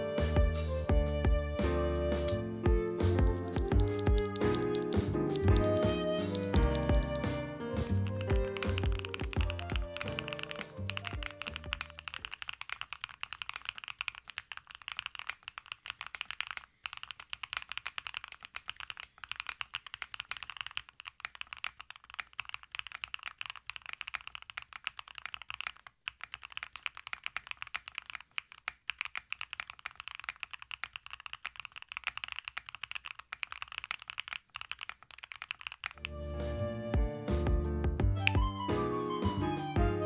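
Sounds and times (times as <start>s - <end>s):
fast mechanical keyboard typing: 2.9s - 36.2s.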